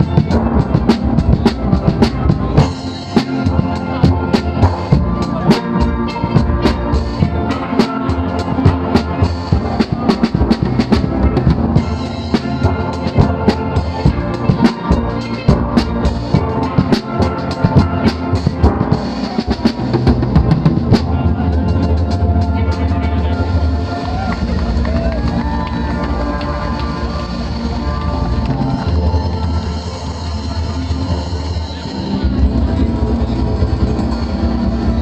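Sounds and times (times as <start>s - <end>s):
drum kit beat: 0.0s - 29.5s
steel pan band playing: 0.0s - 35.0s.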